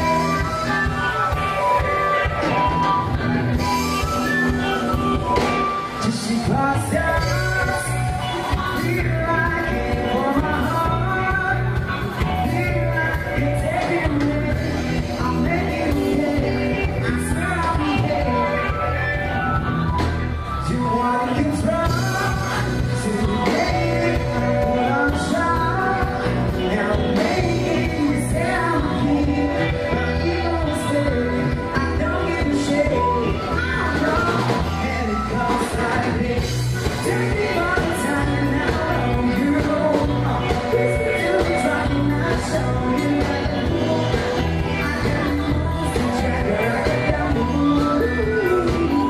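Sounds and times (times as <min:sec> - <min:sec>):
live band playing: 0:00.0 - 0:49.0
person singing into a microphone: 0:00.0 - 0:49.0.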